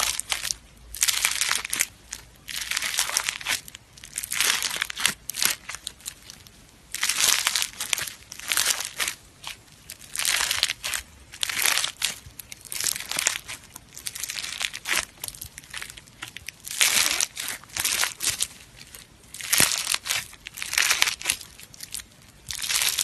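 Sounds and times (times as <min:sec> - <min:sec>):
crunchy slime squeezed by hand: 0:00.0 - 0:23.0.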